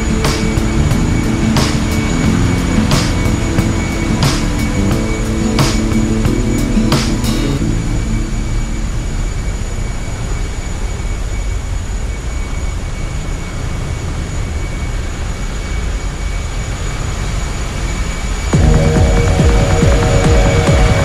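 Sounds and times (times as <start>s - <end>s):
engine room low rumble: 0.0s - 16.5s, 18.6s - 21.0s
faint high whine: 0.0s - 21.0s.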